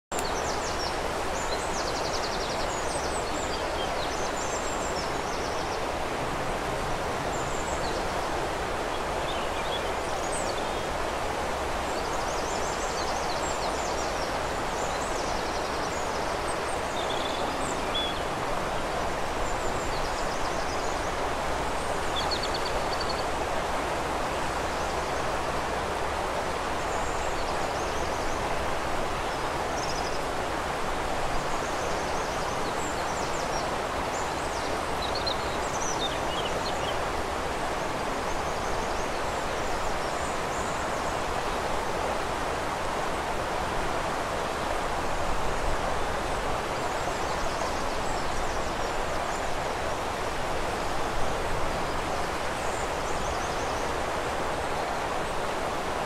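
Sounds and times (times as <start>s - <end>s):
river water rushing: 0.1s - 56.0s.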